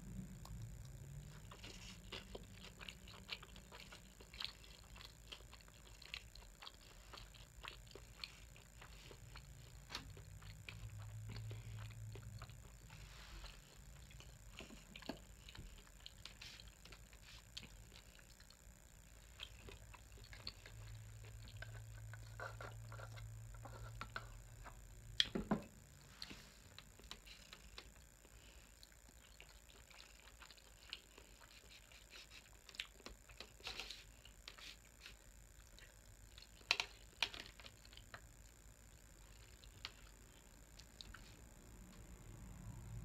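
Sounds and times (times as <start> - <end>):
soft chewing: 0.0 - 43.0.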